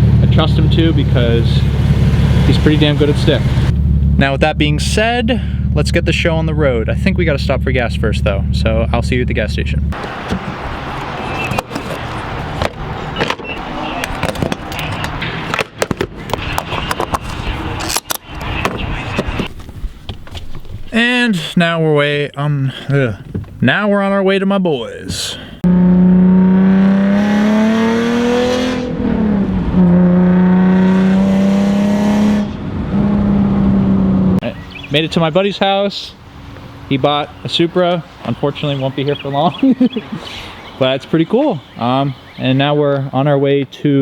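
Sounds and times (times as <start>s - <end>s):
car engine and road noise: 0.0s - 20.9s, 25.5s - 42.4s.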